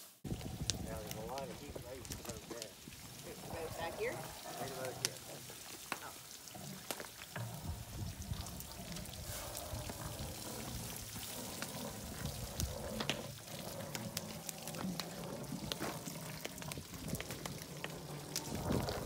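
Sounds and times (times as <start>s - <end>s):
water hissing on hot iron: 0.0s - 19.0s
water pouring from watering cans: 0.1s - 19.0s.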